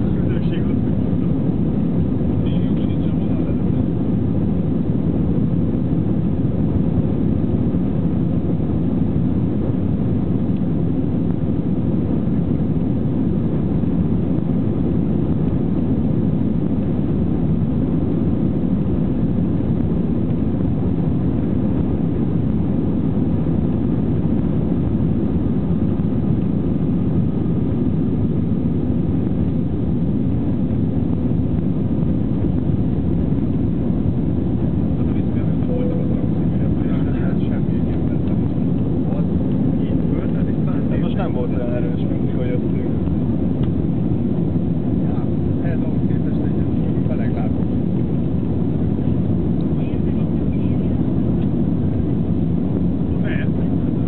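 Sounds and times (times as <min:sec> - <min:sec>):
faint engine whine: 0:00.0 - 0:54.0
jet engine rumble: 0:00.0 - 0:54.0.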